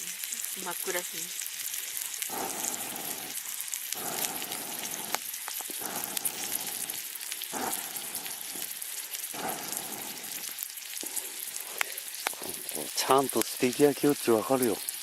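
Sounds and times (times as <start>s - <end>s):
steak sizzling over campfire: 0.0s - 15.0s.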